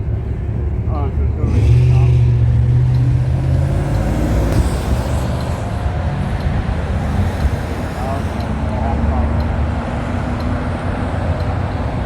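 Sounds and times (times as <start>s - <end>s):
vehicles passing with low rumble: 0.0s - 12.0s.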